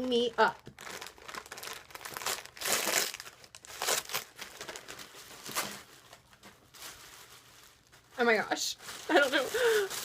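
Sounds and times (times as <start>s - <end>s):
wrapping paper tearing and crumpling: 0.3s - 10.0s.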